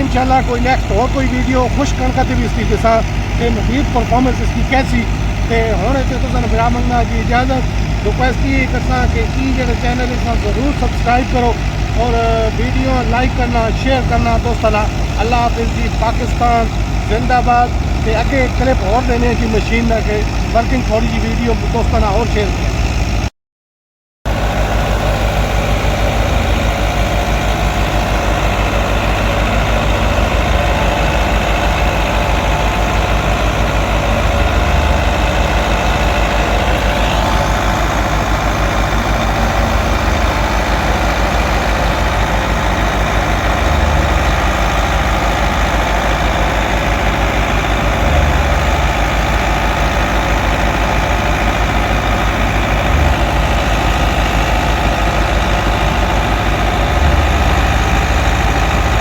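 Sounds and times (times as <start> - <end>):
thresher machine hum: 0.0 - 23.2, 24.3 - 59.0
tractor diesel engine running: 0.0 - 23.3, 24.3 - 59.0.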